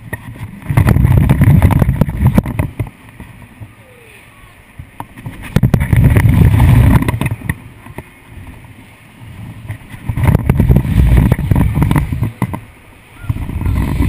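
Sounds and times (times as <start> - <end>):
ride rumbling and rattling: 0.0 - 14.0
wind buffeting microphone: 0.0 - 14.0.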